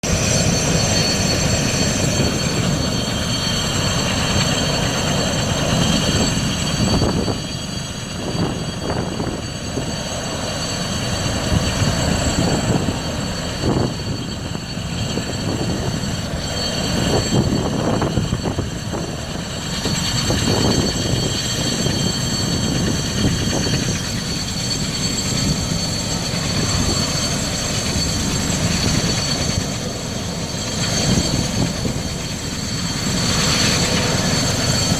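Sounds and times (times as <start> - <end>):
helicopter turbine whine: 0.0 - 34.9.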